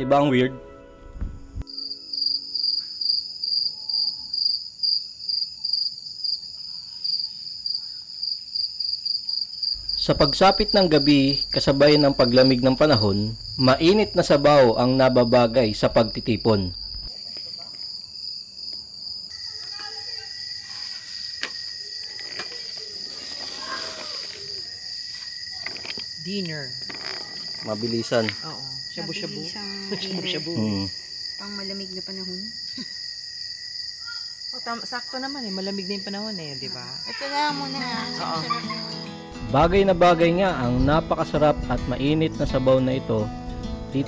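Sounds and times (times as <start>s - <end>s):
crickets chirping: 1.6s - 44.0s.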